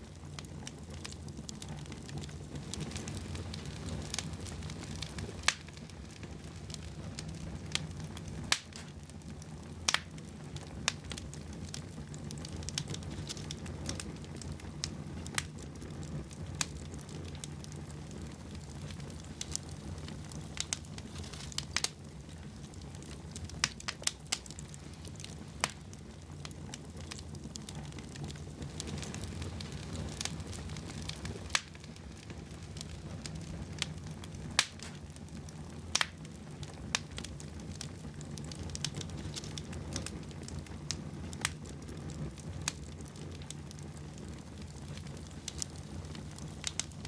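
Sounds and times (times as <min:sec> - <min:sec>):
fire popping: 0:00.0 - 0:47.0
low rumble of burning fire: 0:00.0 - 0:47.0
wood fire crackling: 0:00.0 - 0:47.0.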